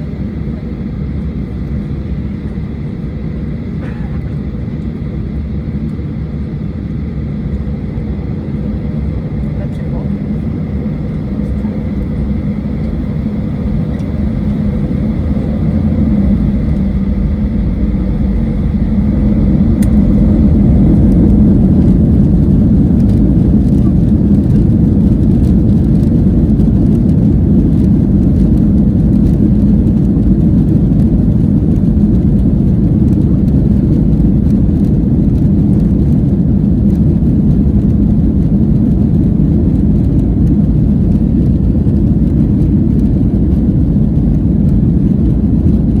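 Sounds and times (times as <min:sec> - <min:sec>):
jet engines rumbling: 0:00.0 - 0:46.0.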